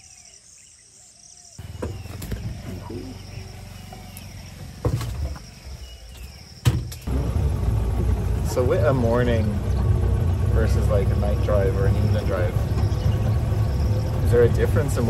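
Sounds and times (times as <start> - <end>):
bird chirps: 0.0 - 7.1, 8.9 - 15.0
insect chorus: 0.0 - 7.1, 8.5 - 15.0
vehicle driving on rough track: 1.6 - 15.0
vehicle knocks and jolts: 1.6 - 15.0.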